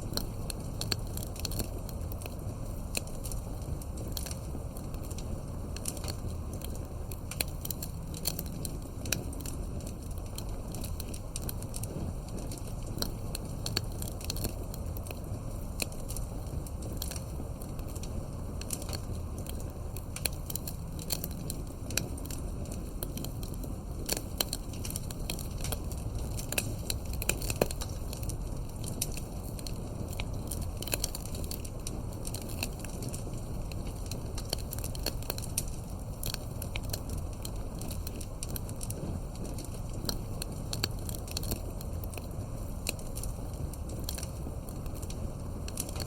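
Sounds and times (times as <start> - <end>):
campfire crackling: 0.0 - 46.0.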